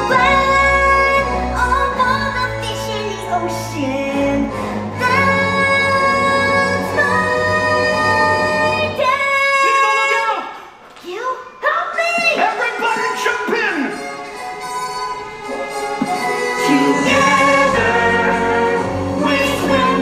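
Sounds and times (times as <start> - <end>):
orchestral backing track: 0.0 - 9.3, 12.4 - 20.0
person singing: 0.0 - 10.0, 13.9 - 20.0.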